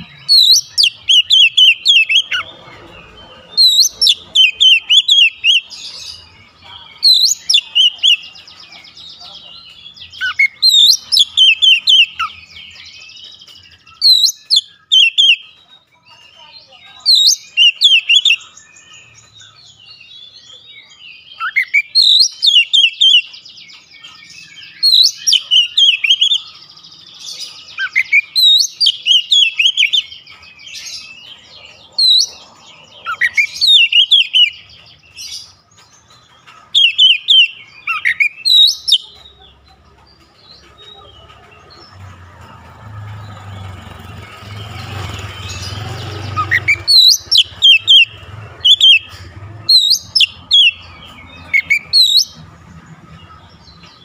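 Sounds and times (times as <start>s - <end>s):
bird singing sharp rapid notes: 0.0s - 54.0s.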